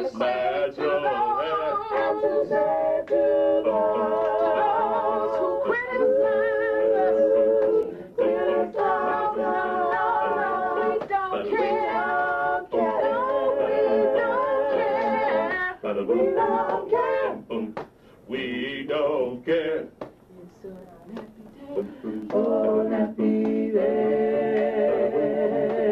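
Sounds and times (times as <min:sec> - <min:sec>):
group singing a cappella: 0:00.0 - 0:20.1, 0:21.1 - 0:25.9.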